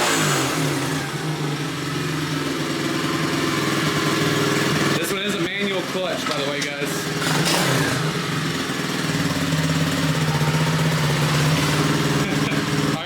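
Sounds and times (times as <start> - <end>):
motorbike engine idling: 0.0 - 13.0.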